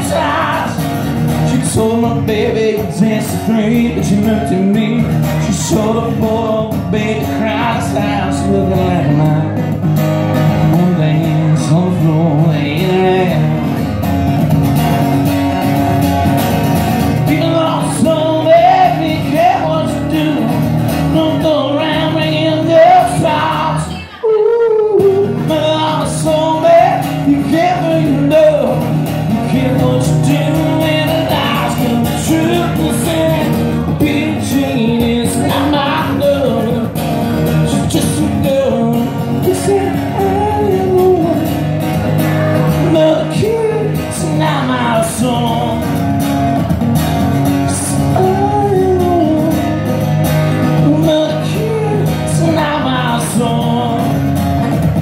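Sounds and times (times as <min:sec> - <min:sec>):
live music with singing: 0:00.0 - 0:55.0.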